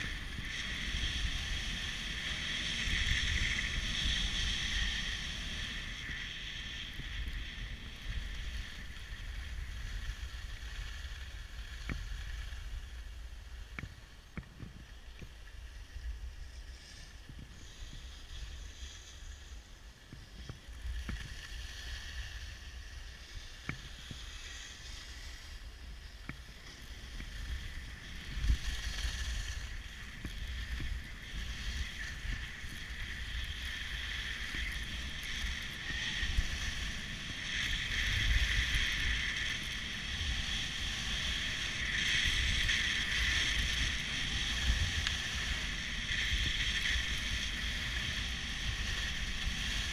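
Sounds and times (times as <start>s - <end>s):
skis scraping on snow: 0.0s - 49.9s
wind rumbling on microphone: 0.0s - 49.9s.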